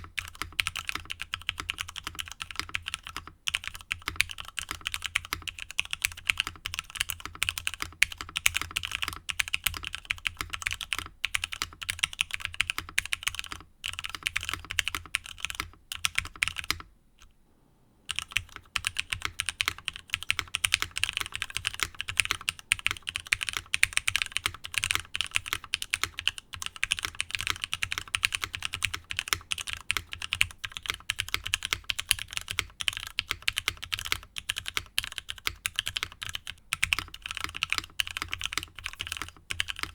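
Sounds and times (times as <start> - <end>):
fast typing on mechanical keyboard: 0.0 - 16.9, 18.1 - 39.9.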